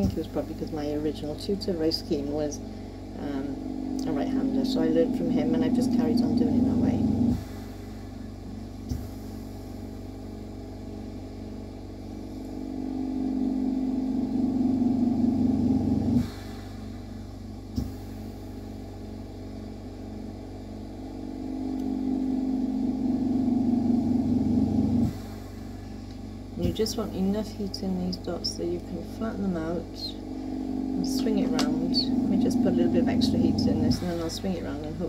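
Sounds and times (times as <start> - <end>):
low motor drone: 0.0 - 35.0
steady machine hum: 0.0 - 35.0.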